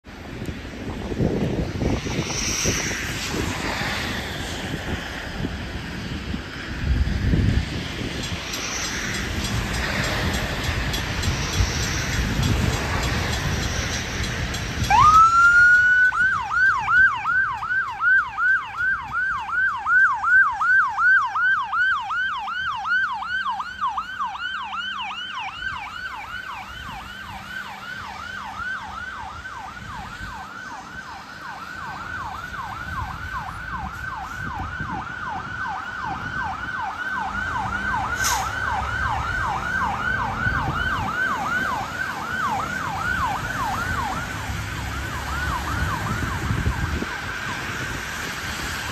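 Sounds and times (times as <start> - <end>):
fire engine siren yelping: 0.7 - 48.9.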